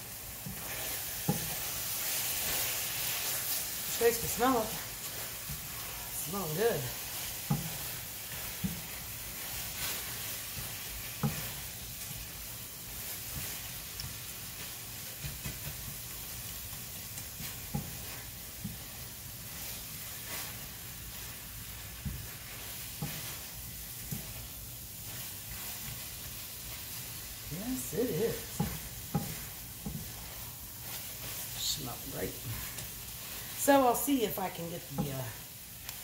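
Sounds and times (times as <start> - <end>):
chicken sizzling in pan: 0.0 - 36.0
spatula scraping pan: 0.2 - 36.0.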